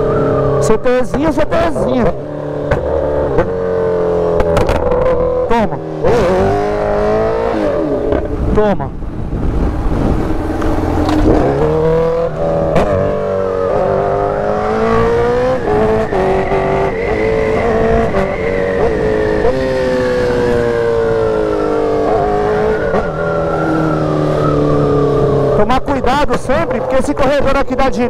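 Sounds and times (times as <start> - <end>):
motorcycle engine revving and upshifting: 0.0 - 8.6, 9.4 - 28.0.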